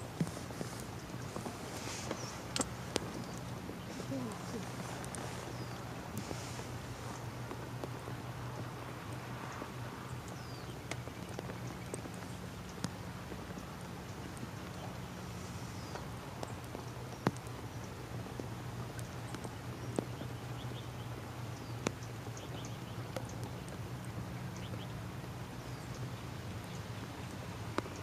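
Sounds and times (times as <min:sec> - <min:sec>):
sharp raindrop taps: 0:00.0 - 0:28.0
steady rain: 0:00.0 - 0:28.0
wind: 0:00.0 - 0:28.0.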